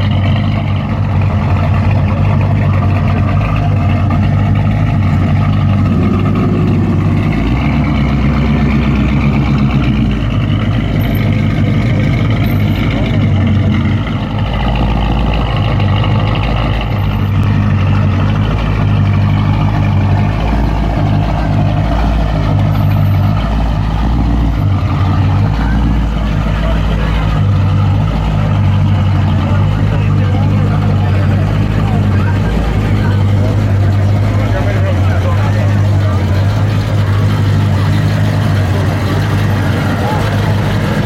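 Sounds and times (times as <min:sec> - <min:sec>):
car engine idling: 0:00.0 - 0:41.0
people talking: 0:00.0 - 0:41.0.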